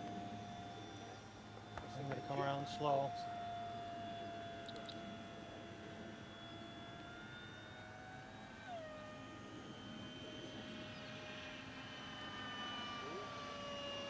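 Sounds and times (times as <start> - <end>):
model jet fan whine: 0.0 - 14.0.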